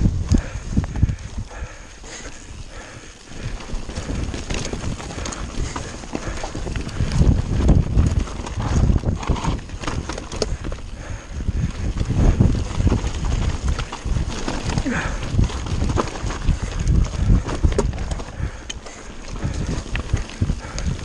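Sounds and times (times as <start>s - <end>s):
mountain bike rattling on rocks: 0.0s - 21.0s.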